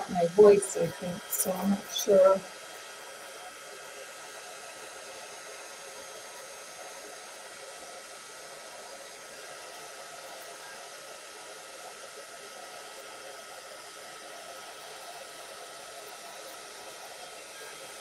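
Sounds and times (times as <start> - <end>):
heat tool blowing hot air: 0.0 - 18.0.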